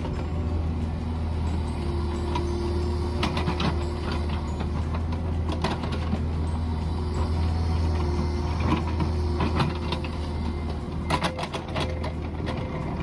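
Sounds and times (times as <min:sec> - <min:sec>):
small diesel engine running: 0:00.0 - 0:13.0
metallic clanks and knocks: 0:01.4 - 0:13.0.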